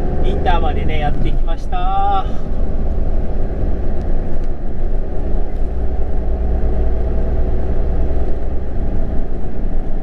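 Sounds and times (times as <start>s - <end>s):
road noise: 0.0s - 10.0s
truck diesel engine drone: 0.0s - 10.0s.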